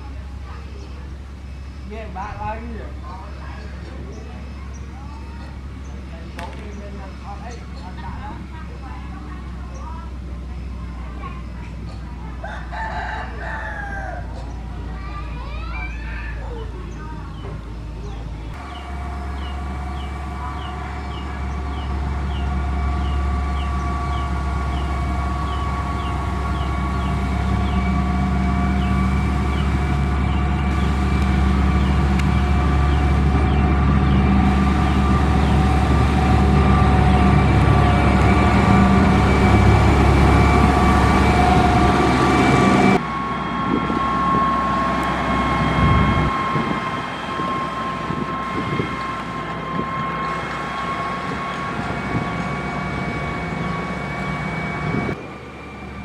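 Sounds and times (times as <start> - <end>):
diesel engine drone and whine: 0.0 - 56.0.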